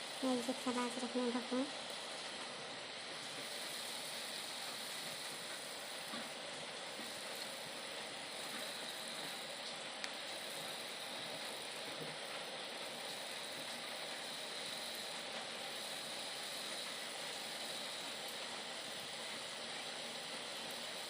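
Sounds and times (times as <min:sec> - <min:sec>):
syrup boiling with hiss: 0:00.0 - 0:21.0.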